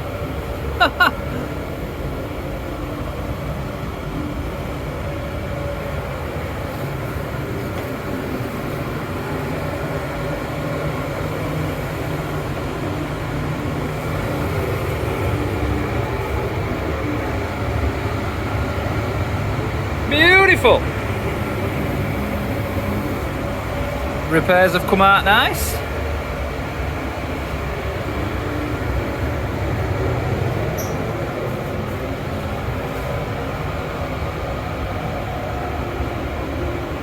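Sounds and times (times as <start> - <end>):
low mechanical rumble and hum: 0.0 - 37.0.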